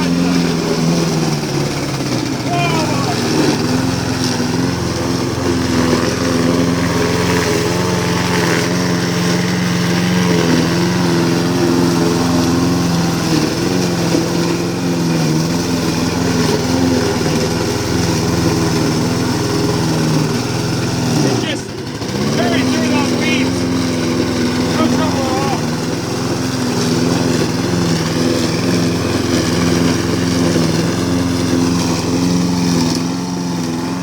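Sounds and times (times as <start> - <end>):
lawnmower engine cutting grass: 0.0 - 34.0.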